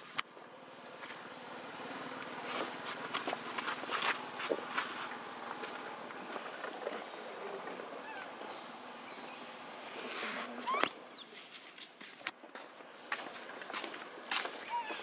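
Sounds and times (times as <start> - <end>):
outdoor ambience: 0.0 - 15.0.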